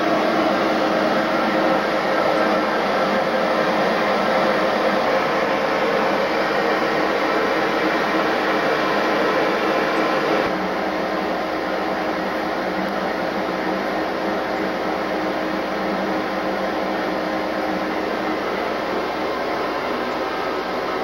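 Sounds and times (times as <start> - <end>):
locomotive cab droning hum: 0.0 - 21.0.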